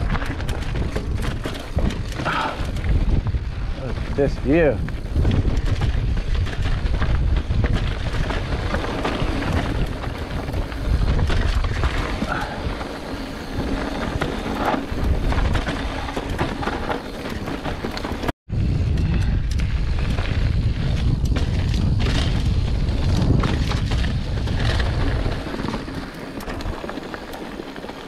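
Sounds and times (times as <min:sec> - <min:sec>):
bike rattling clicks: 0:00.0 - 0:03.4, 0:04.8 - 0:28.0
tyres crunching over gravel: 0:00.0 - 0:18.3, 0:19.9 - 0:28.0
wind buffeting microphone: 0:00.0 - 0:27.5.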